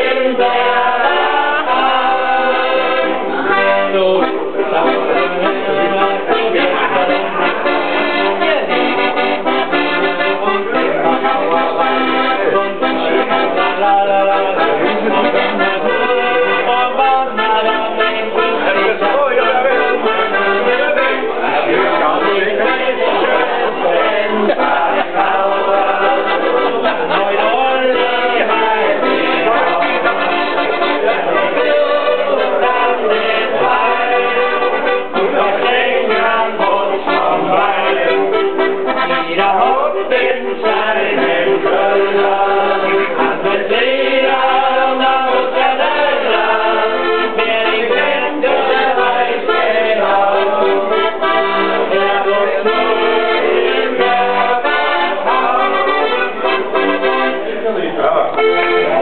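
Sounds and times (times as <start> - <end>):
button accordion playing a tune: 0.0 - 59.0.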